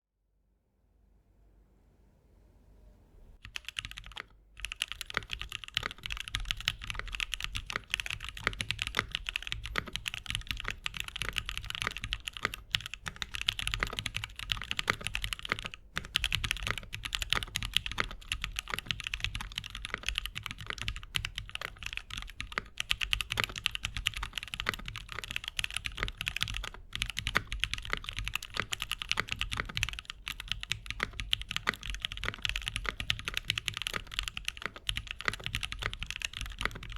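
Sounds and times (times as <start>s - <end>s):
typing on mechanical keyboard: 3.4s - 36.9s.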